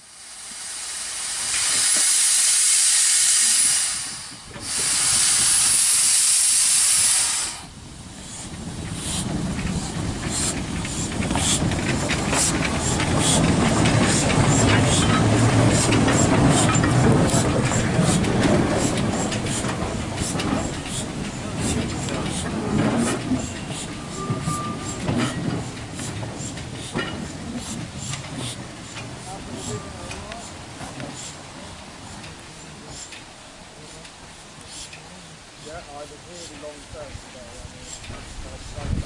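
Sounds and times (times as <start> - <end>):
steam locomotive exhaust chuffs: 0.0 - 35.0, 35.6 - 39.0
loud steam hiss: 0.0 - 39.0
wheels rumbling on rail: 0.0 - 39.0.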